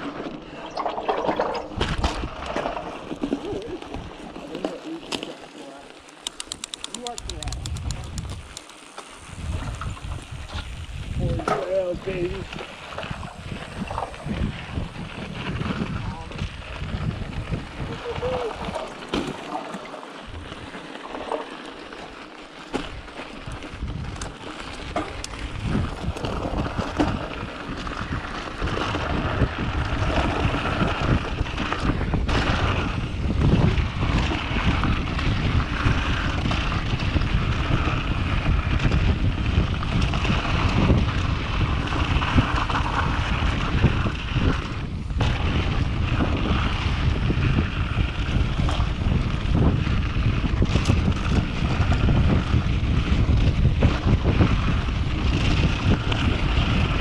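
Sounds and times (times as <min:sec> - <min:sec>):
bike clicks and rattles: 0:00.0 - 0:57.0
tyres rolling on dirt: 0:00.0 - 0:57.0
wind buffeting microphone: 0:06.2 - 0:08.6, 0:09.2 - 0:19.1, 0:22.8 - 0:57.0.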